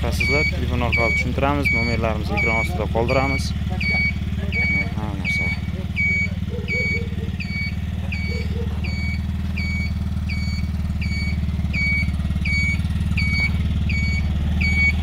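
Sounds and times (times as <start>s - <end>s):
motor tricycle engine idling: 0.0s - 15.0s
short electronic beeps: 0.1s - 15.0s.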